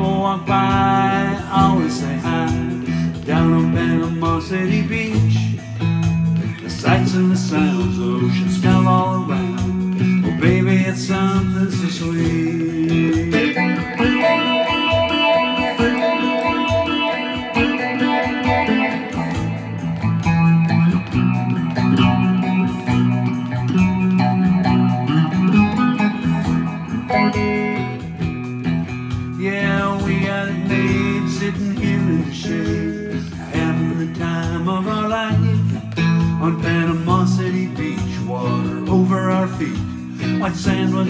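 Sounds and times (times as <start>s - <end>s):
instrumental guitar music: 0.0s - 41.0s.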